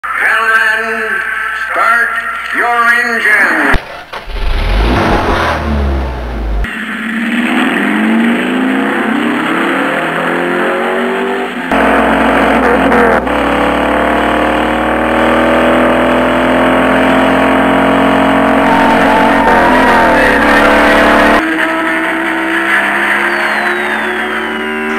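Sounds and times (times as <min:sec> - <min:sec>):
race car engines accelerating: 0:03.7 - 0:24.9.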